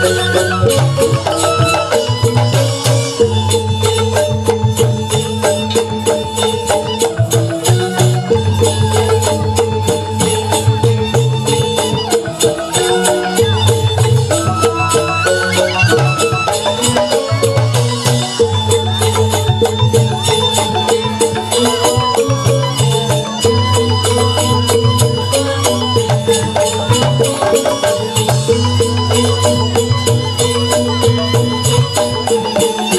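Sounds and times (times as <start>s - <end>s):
bamboo flutes melody: 0.0s - 32.9s
bamboo xylophones striking: 0.0s - 32.9s.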